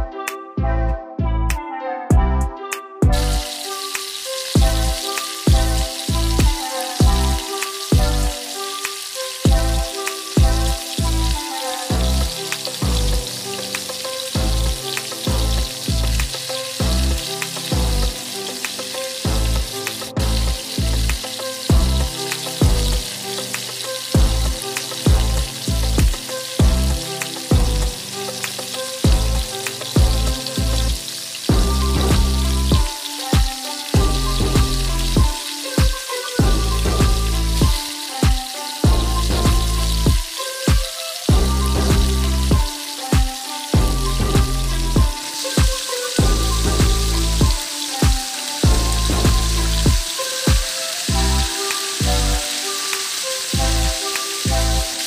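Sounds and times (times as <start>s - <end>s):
background music with bass beat: 0.0s - 55.0s
chicken deep-frying in oil: 3.1s - 55.0s.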